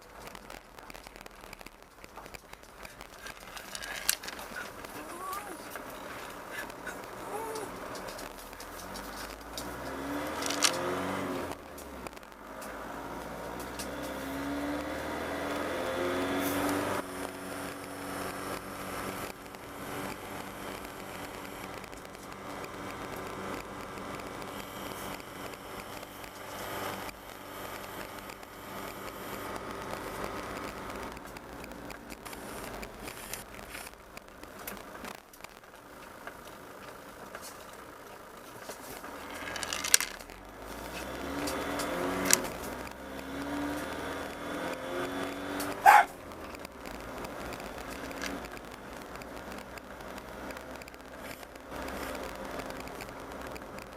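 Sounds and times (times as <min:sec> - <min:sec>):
motorhome engine running: 0:00.0 - 0:53.9
rattles and clicks inside vehicle: 0:00.0 - 0:53.9.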